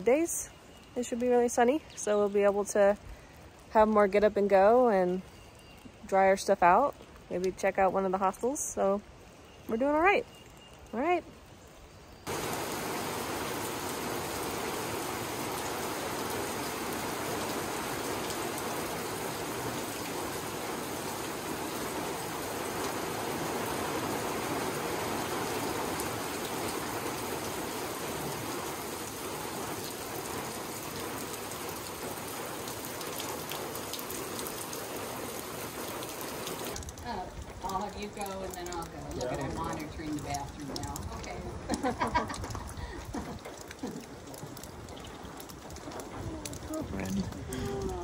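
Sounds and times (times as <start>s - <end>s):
rain falling on forest: 0.0s - 48.0s.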